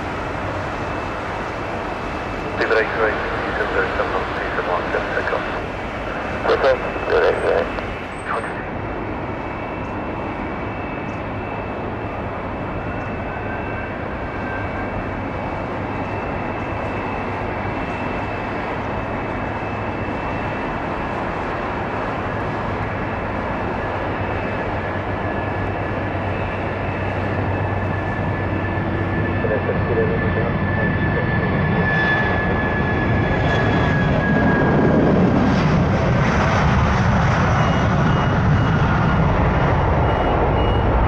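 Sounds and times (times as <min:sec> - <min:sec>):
jet engines rumbling and whining: 0:00.0 - 0:41.0.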